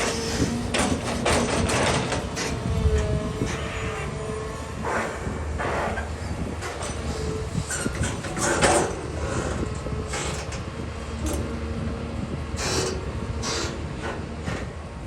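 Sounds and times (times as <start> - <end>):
excavator working bursts: 0.0 - 14.5
excavator engine rumbling: 0.0 - 15.0.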